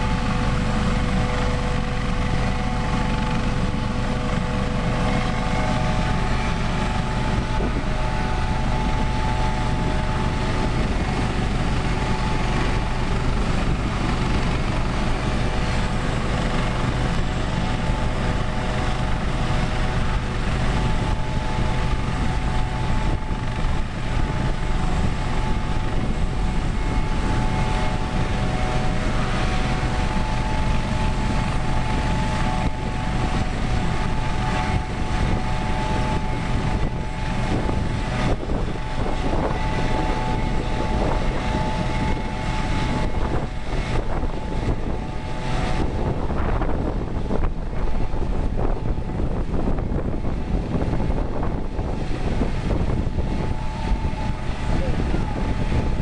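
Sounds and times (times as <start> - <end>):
helicopter rotor noise: 0.0 - 56.0
helicopter turbine whine: 0.0 - 56.0.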